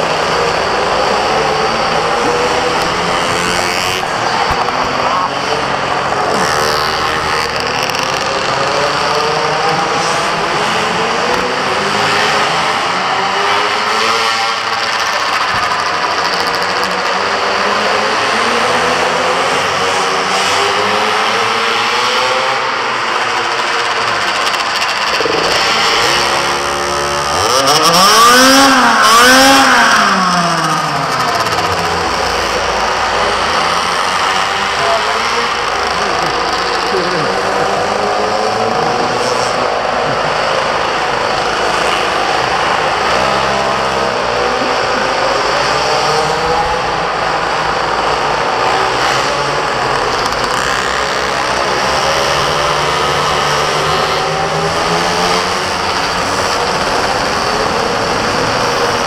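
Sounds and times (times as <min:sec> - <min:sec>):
go-kart engines droning: 0:00.0 - 0:59.0.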